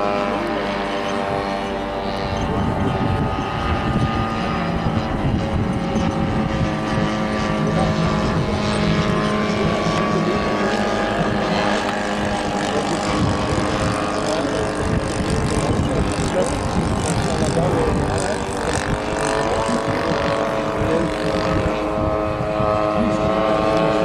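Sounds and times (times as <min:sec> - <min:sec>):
biplane engine and propeller drone: 0:00.0 - 0:24.0.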